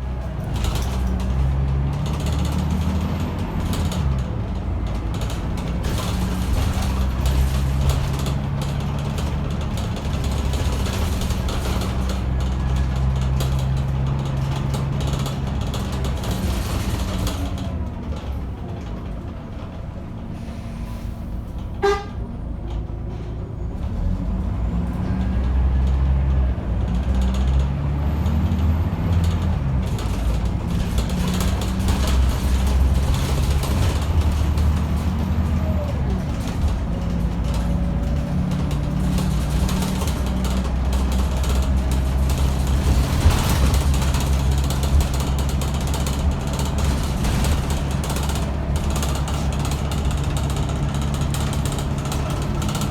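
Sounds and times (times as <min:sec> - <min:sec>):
bus diesel engine under load: 0:00.0 - 0:52.9.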